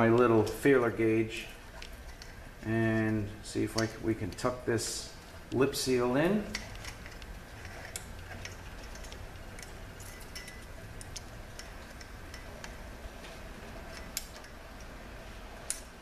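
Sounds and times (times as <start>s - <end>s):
low steady hum: 0.0s - 16.0s
light metallic clicks and ticks: 1.7s - 15.0s.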